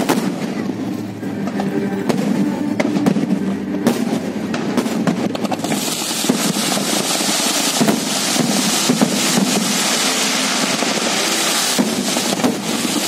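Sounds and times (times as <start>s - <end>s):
fireworks crackling and banging: 0.0s - 13.0s
steady rushing hiss: 0.0s - 13.0s.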